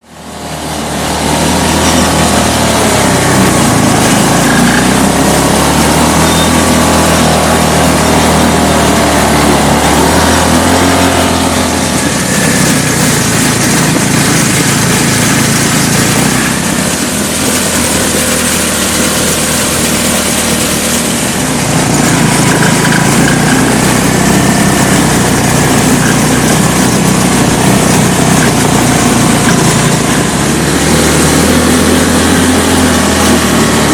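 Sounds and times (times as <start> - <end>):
quad bike engine running: 0.0 - 33.9.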